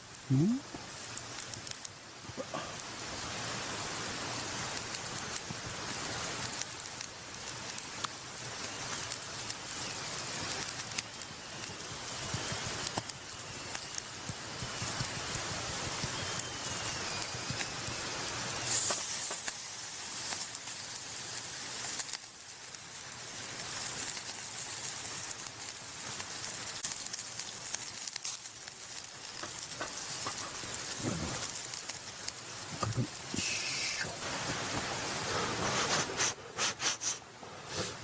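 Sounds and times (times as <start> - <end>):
skewers sizzling on a grill: 0.0 - 38.0.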